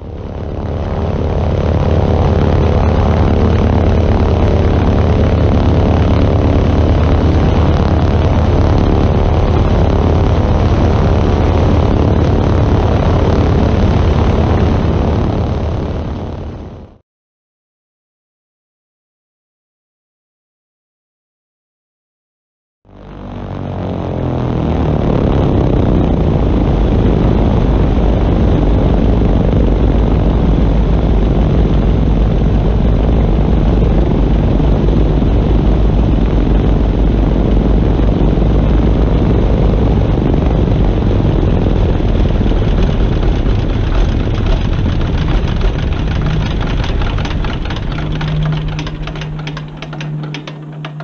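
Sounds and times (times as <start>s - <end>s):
propeller plane engines rumbling: 0.0s - 16.9s, 22.9s - 51.0s.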